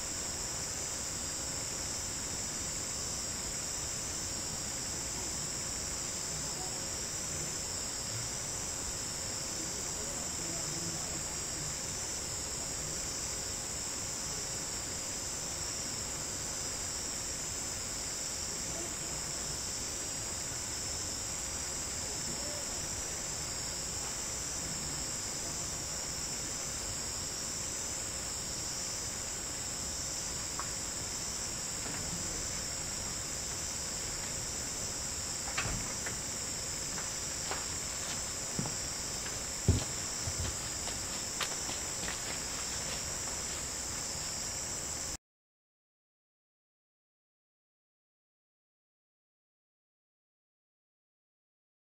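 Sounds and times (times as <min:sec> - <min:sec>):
crickets chirring: 0:00.0 - 0:45.2.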